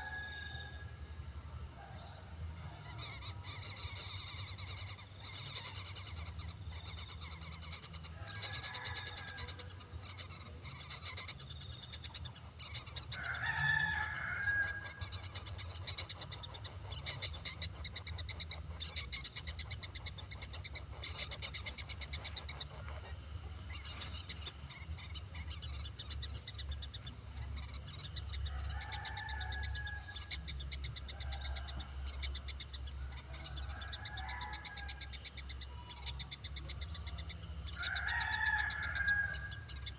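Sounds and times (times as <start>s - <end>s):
drawn-out bird calls: 0.0s - 0.8s, 2.6s - 39.9s
high-pitched insects chirring: 0.0s - 39.9s.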